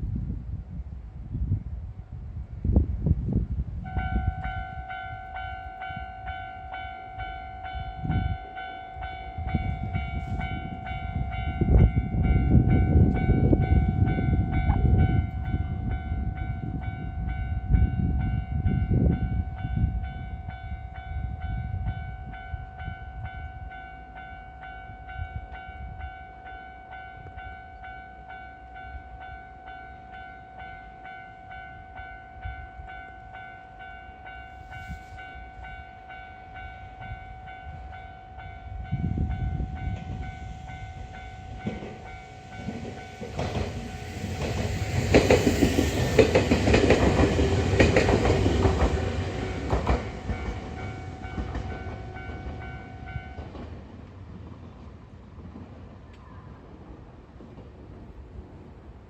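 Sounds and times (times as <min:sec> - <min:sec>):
level crossing warning bell: 0:03.9 - 0:53.7.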